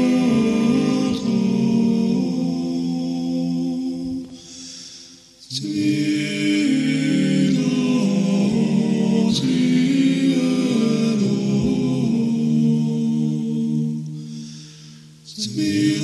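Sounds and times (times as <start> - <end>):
choral chant: 0.0 - 16.0.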